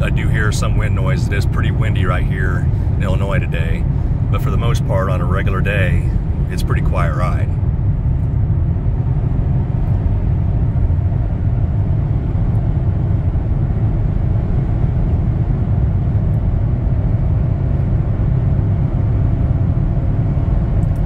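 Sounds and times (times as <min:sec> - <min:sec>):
car cabin road and wind noise: 0:00.0 - 0:21.0.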